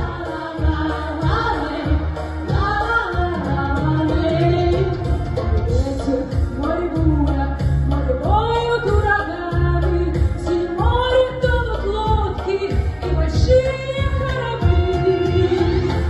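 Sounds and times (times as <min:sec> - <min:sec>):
pulsing bass line: 0:00.0 - 0:16.0
women singing: 0:00.0 - 0:16.0.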